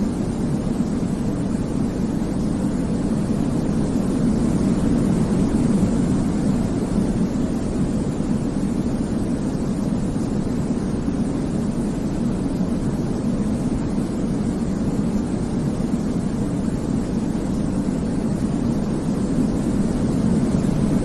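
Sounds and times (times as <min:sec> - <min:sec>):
deep rumbling hiss: 0:00.0 - 0:21.0.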